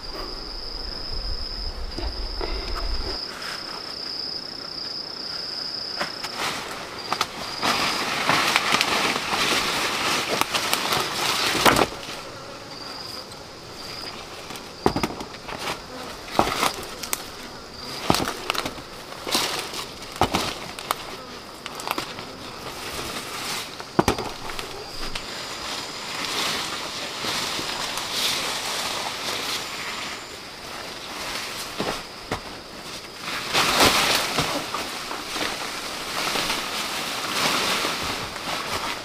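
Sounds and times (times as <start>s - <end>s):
rustling noise: 0.0s - 4.0s, 6.0s - 12.4s, 13.8s - 39.0s
insect high steady trill: 0.0s - 39.0s.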